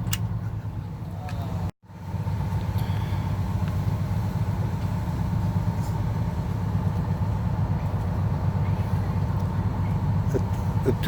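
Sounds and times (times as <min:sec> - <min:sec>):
boat engine drone: 0:00.0 - 0:11.0.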